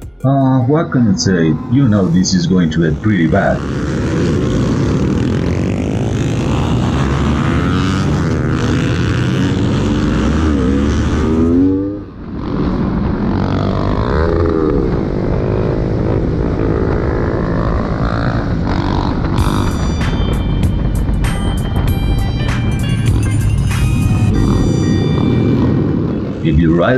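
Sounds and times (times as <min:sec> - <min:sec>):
motorcycle engine revving: 0:00.9 - 0:26.9
wind noise: 0:00.9 - 0:26.9.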